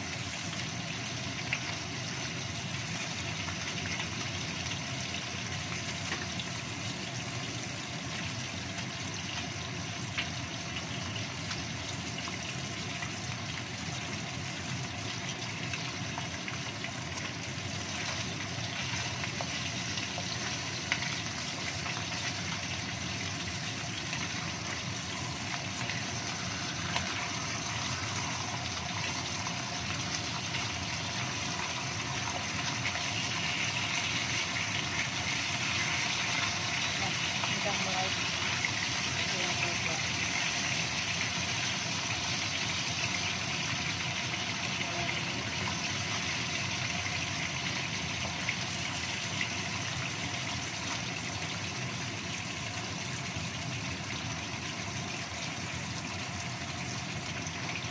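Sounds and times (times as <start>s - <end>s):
fish sizzling in hot oil: 0.0s - 57.9s.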